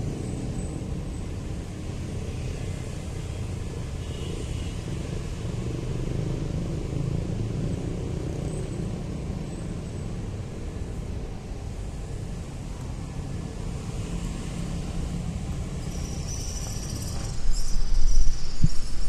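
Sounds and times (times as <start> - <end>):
low rumble of vehicles: 0.0 - 19.0.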